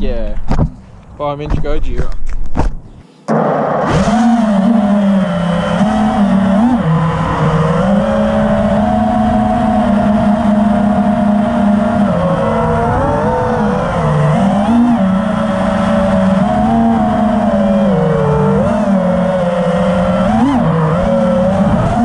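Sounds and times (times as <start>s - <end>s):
quadcopter motors buzzing: 3.3s - 22.0s.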